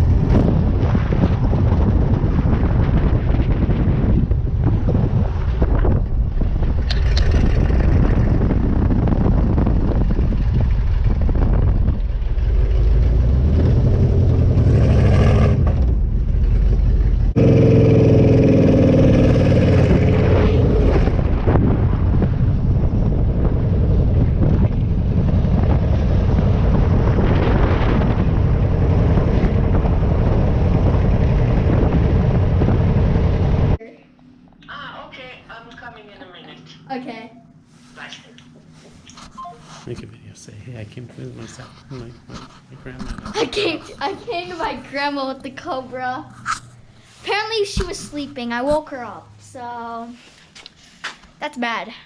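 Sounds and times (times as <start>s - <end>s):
car engine rumbling: 0.0s - 50.0s.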